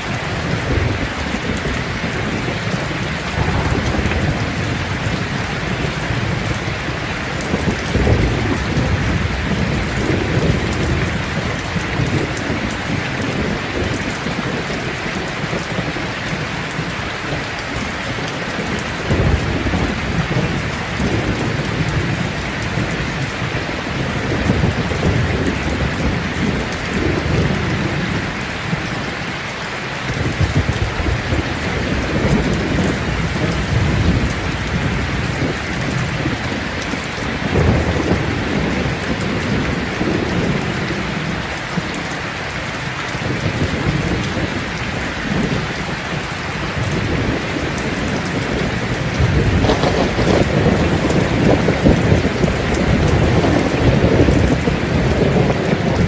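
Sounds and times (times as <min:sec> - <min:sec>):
steady rain falling: 0:00.0 - 0:56.0
thunder rumbling: 0:00.0 - 0:56.0.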